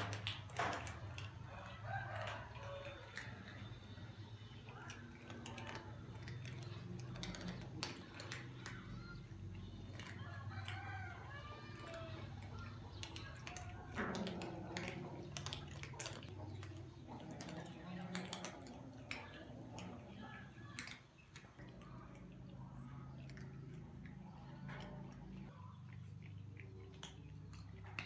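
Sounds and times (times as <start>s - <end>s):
cats crunching dry kibble: 0.0s - 28.0s.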